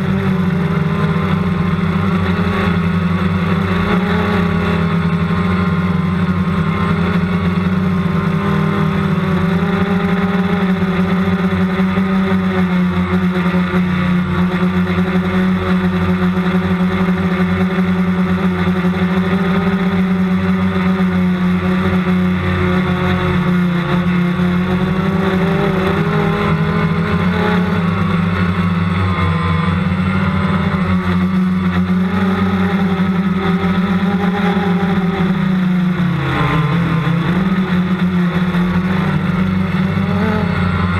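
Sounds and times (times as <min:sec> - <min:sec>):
drone propellers humming: 0:00.0 - 0:40.9.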